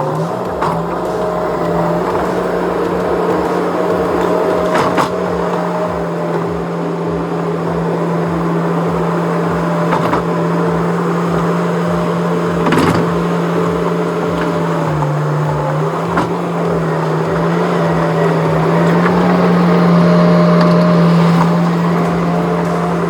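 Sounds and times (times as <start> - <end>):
skid steer engine humming: 0.0 - 23.0.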